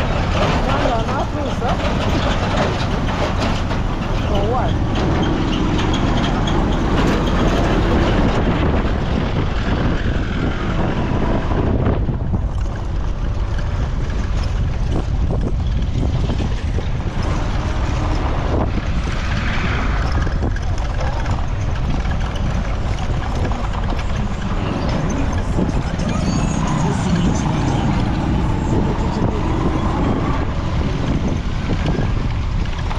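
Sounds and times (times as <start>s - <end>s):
road traffic passing: 0.0s - 32.9s
wind buffeting microphone: 0.0s - 32.9s.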